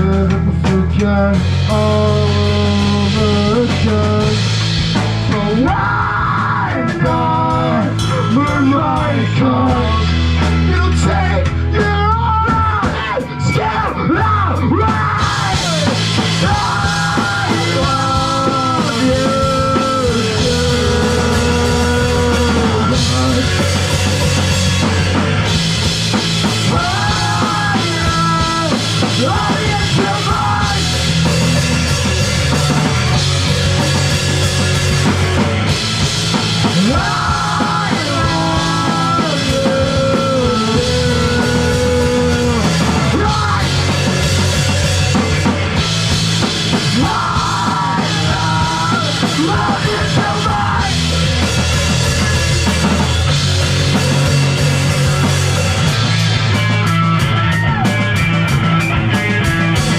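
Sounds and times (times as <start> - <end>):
drum kit: 0.0 - 59.9
live rock band playing: 0.0 - 59.9.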